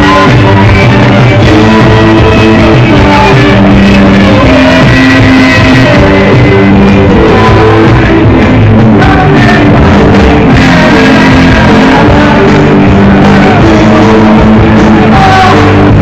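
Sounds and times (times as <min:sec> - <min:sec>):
faint singing: 0:00.0 - 0:16.0
loud rock band music: 0:00.0 - 0:16.0.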